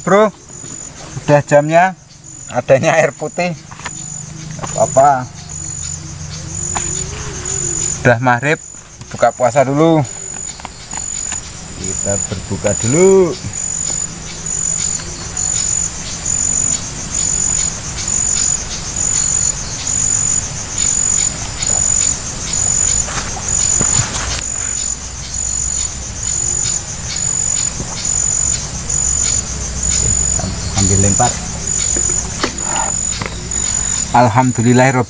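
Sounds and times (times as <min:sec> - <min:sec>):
insect chirping: 0:00.0 - 0:35.0
rustling hiss: 0:00.0 - 0:35.0.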